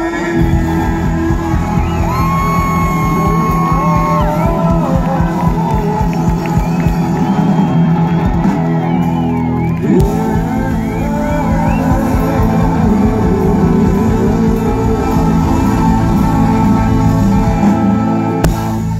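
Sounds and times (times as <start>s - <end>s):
live band playing instrumental: 0.0s - 18.9s.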